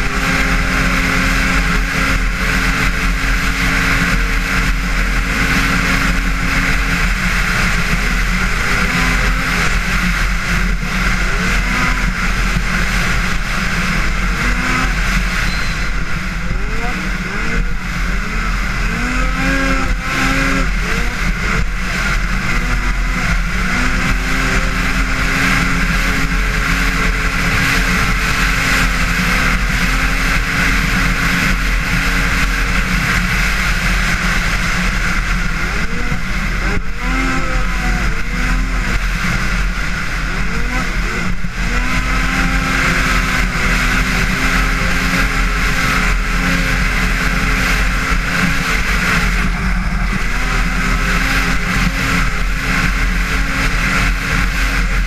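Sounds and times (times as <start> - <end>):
constant rushing noise: 0.0 - 55.0
snowmobile engine revving: 0.0 - 55.0.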